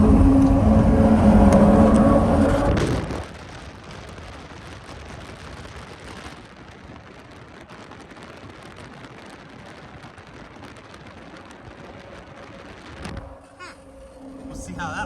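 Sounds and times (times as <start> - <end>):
loud rumble: 0.0 - 7.1, 7.7 - 15.0.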